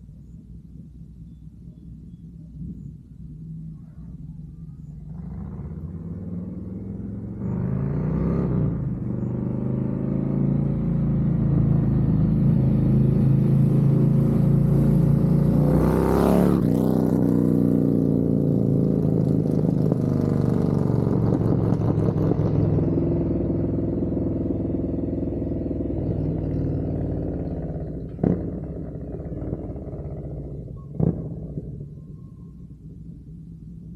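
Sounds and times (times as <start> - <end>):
motorcycle engine revving: 5.0 - 33.0.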